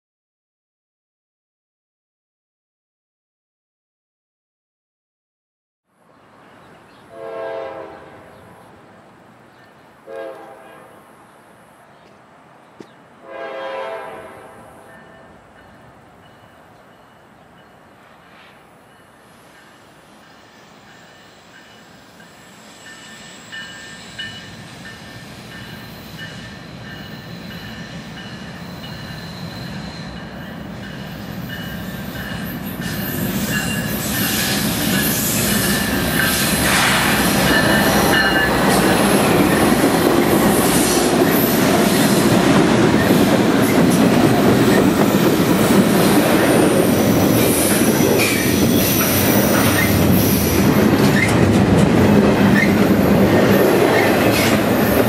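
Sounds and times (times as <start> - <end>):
freight train rumbling past: 6.1 - 55.0.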